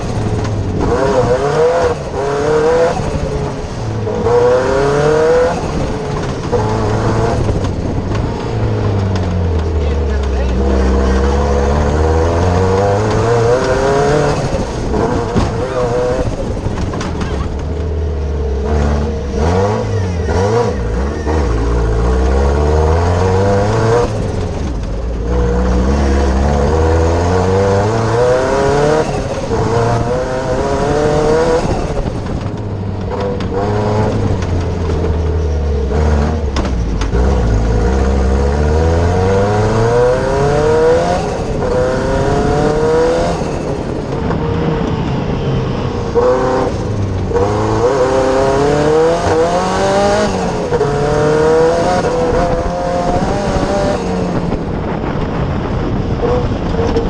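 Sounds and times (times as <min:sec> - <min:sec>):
racing car engine accelerating: 0:00.0 - 0:57.0.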